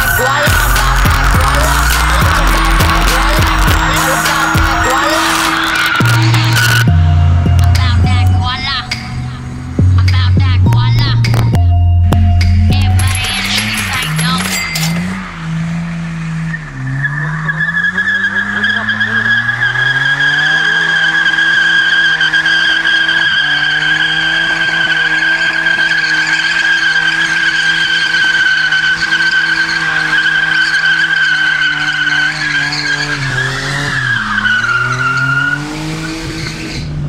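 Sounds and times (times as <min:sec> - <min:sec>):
tyres squealing: 0:00.0 - 0:06.9, 0:12.8 - 0:36.9
engine revving high: 0:00.0 - 0:11.6, 0:12.4 - 0:37.0.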